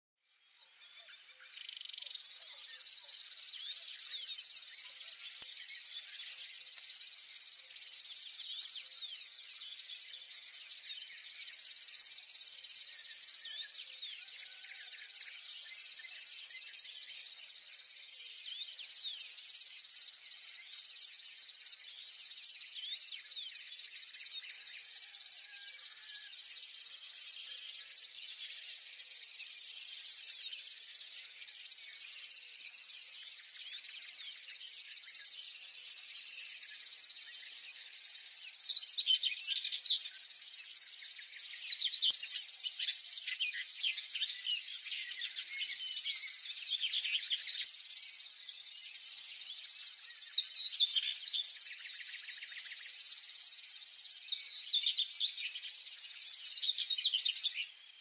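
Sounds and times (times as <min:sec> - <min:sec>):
warbler reeling trill: 0:01.7 - 0:57.8.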